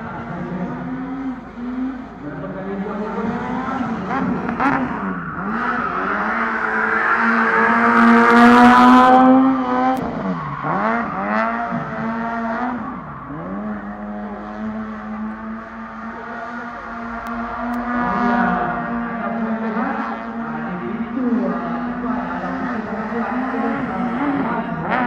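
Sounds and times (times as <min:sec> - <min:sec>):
rally car engine at high revs: 0:00.0 - 0:25.0.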